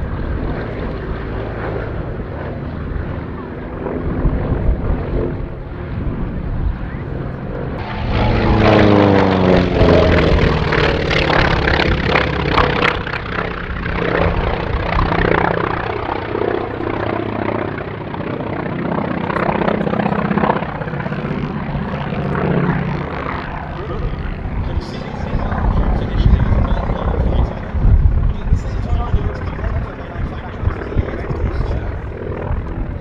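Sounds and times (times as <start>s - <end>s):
propeller plane engine drone: 0.0s - 33.0s.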